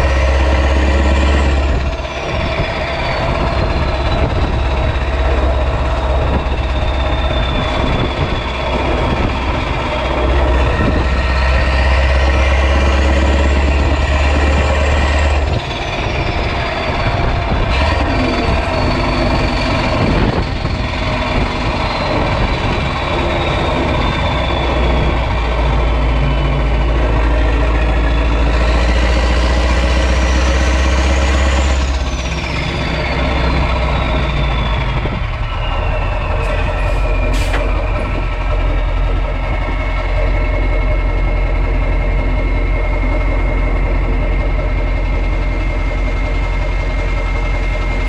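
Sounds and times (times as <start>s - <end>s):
diesel truck engine running loud: 0.0s - 48.0s
turbocharger whistle: 0.0s - 48.0s.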